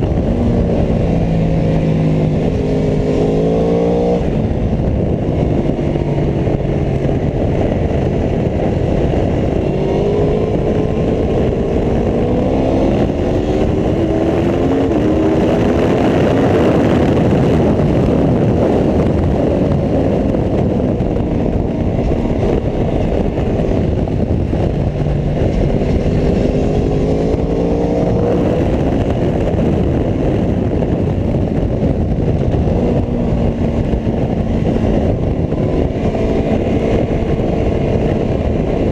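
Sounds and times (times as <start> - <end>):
motorcycle engine accelerating: 0.0 - 38.9
wind noise: 0.0 - 38.9.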